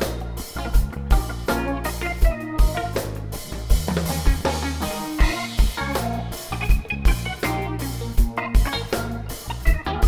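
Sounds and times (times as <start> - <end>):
bass line: 0.0 - 10.0
guitar: 0.0 - 10.0
keyboards: 0.0 - 10.0.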